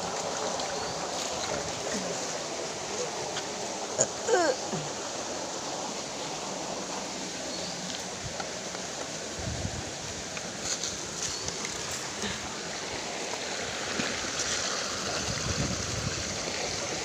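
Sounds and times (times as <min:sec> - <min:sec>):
water flowing over rocks: 0:00.0 - 0:17.0.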